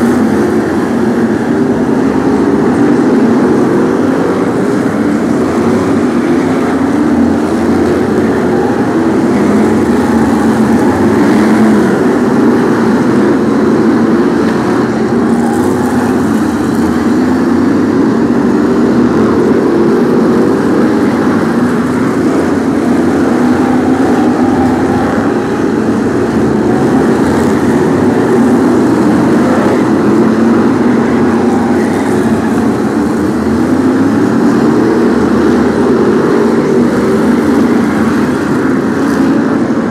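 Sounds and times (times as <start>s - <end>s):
racing car engines roaring: 0.0s - 39.9s.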